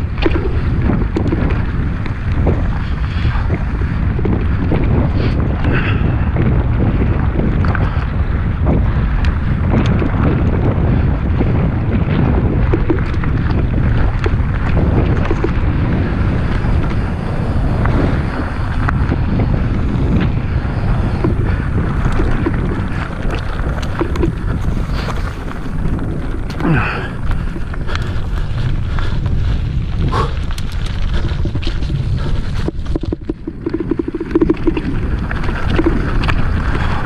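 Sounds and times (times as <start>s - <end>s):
bike clicks and knocks: 0.0s - 37.0s
bike tyres rumbling on dirt: 0.0s - 37.0s
wind buffeting microphone: 0.0s - 37.0s.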